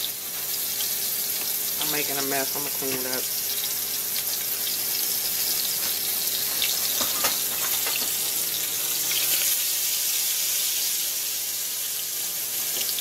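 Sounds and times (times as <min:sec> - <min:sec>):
meat sizzling in grease: 0:00.0 - 0:13.0.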